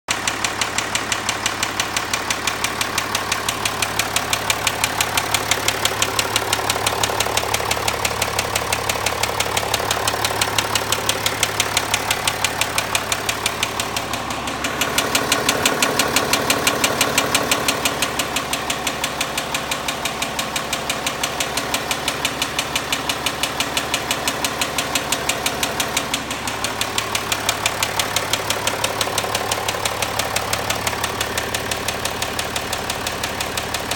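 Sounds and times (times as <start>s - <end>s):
engine running with ticking knock: 0.1s - 33.9s.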